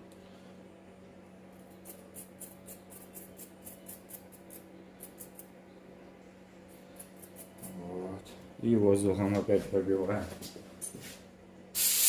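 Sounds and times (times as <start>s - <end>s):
faint steady hum: 0.0s - 11.8s.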